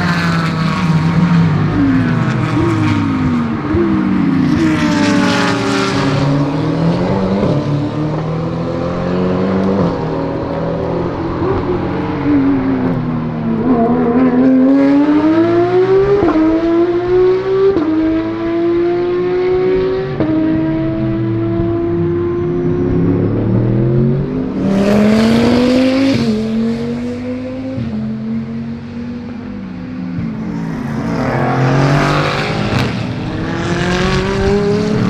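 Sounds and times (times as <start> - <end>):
race car engine accelerating: 0.0 - 35.0
race car passing: 0.0 - 35.0.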